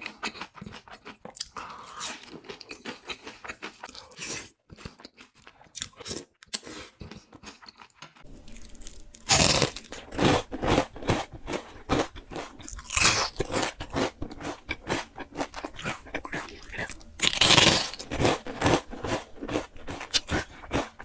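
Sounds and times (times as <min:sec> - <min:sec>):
crunching of fried chicken: 0:00.0 - 0:21.0.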